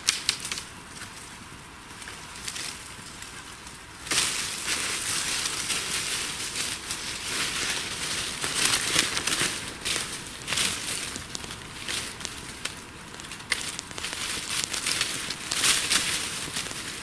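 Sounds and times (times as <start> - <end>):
footsteps crunching dry leaves: 2.0 - 17.0.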